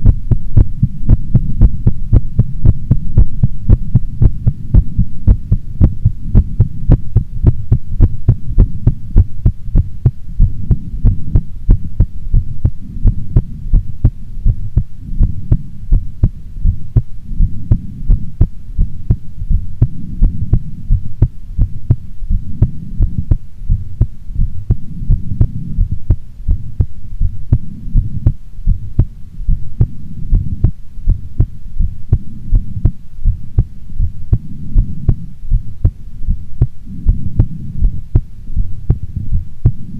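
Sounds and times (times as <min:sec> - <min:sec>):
heartbeat: 0:00.0 - 0:39.9
low rumble: 0:00.0 - 0:39.9.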